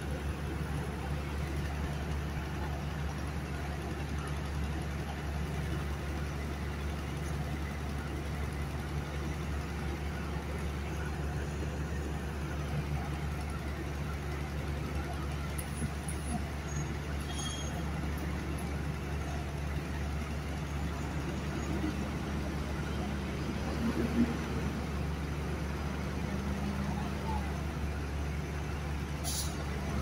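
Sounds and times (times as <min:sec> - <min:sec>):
diesel machinery engine hum: 0:00.0 - 0:30.0.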